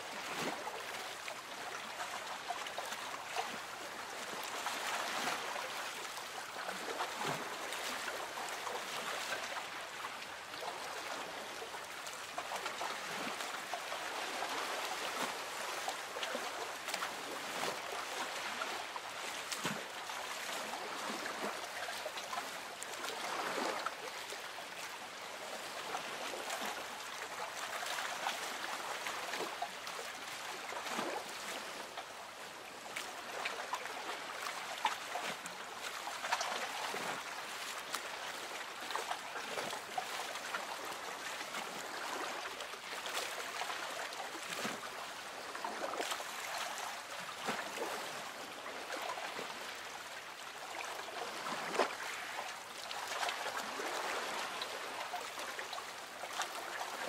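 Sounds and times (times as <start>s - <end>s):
small soft splashes: 0.1s - 57.0s.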